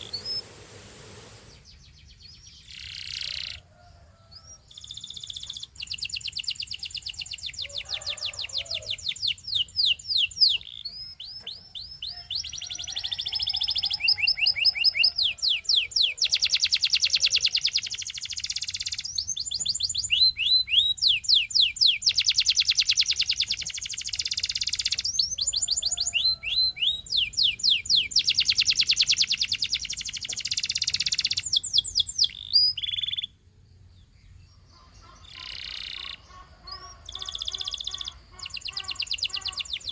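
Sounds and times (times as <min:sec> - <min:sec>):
canary singing fast trills: 0:00.0 - 0:00.5, 0:01.2 - 0:39.9.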